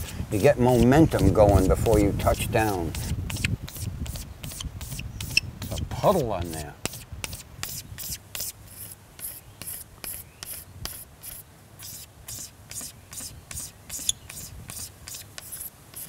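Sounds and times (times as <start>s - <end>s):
razor blade scraping varnish: 0.0s - 16.0s.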